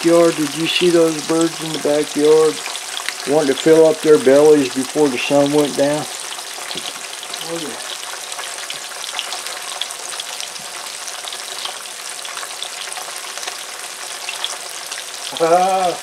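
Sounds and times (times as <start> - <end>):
fish frying with crackling pops: 0.0 - 16.0.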